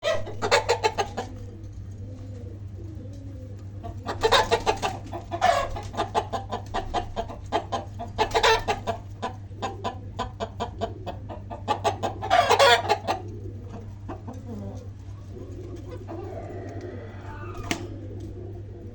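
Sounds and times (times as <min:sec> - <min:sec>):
low electrical hum: 0:00.0 - 0:18.9.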